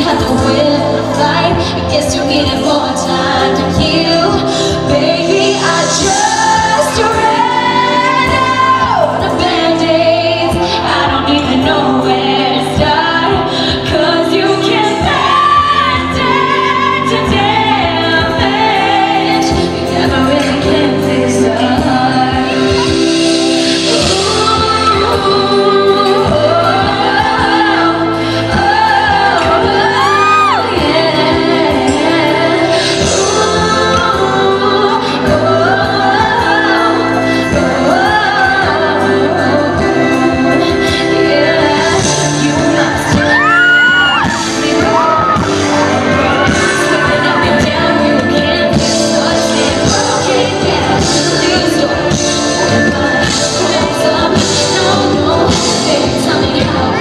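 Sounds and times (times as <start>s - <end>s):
sustained instrumental accompaniment: 0.0s - 57.0s
woman singing pop ballad: 0.0s - 57.0s.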